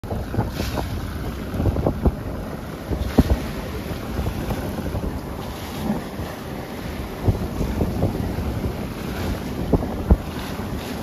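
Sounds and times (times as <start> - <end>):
water rushing along boat hull: 0.0 - 11.0
wind buffeting microphone: 0.0 - 11.0.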